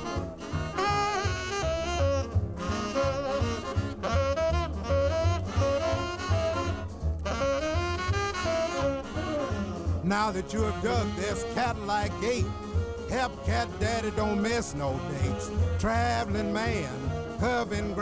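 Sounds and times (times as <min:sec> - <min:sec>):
bass and drum backing: 0:00.0 - 0:18.0
saxophone solo: 0:00.0 - 0:18.0.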